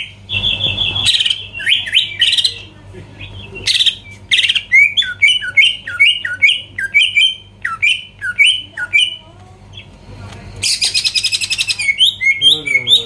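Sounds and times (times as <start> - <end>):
bird whistling bending notes: 0.0 - 9.2, 10.6 - 13.0.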